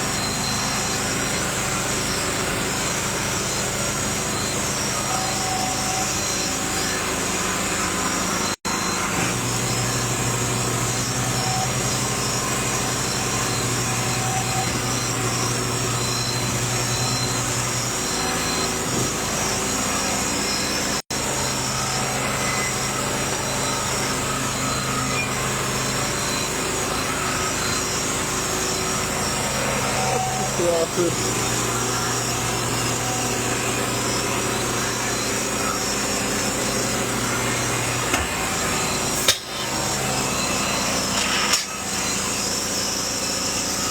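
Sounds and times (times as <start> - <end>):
motor running steadily: 0.0 - 43.9.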